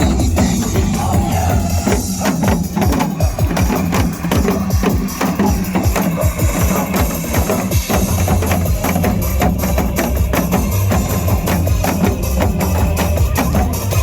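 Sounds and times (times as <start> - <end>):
backing music with bass and drums: 0.0 - 14.0
drumming with sharp strikes: 0.0 - 14.0.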